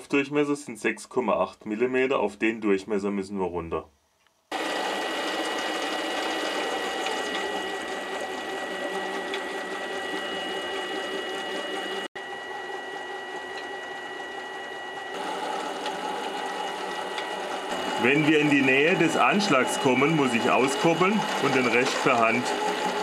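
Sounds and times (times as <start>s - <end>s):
lathe motor and gears running: 4.5s - 23.0s.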